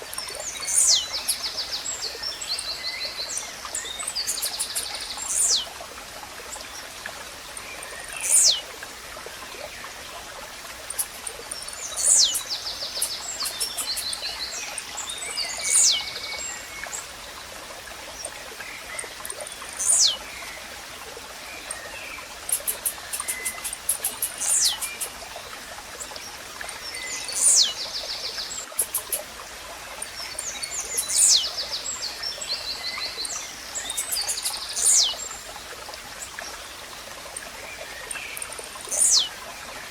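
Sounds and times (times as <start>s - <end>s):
small birds ticking trills: 0.0s - 5.9s, 6.5s - 20.8s, 21.4s - 39.9s
running water hiss: 0.0s - 39.9s.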